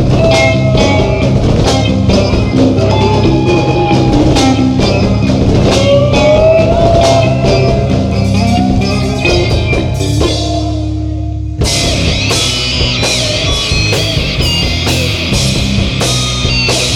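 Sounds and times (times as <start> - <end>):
bass guitar: 0.0 - 16.9
distorted electric guitars: 0.0 - 16.9
drum kit with cymbal hits: 0.0 - 16.9
lead guitar line: 0.0 - 16.9.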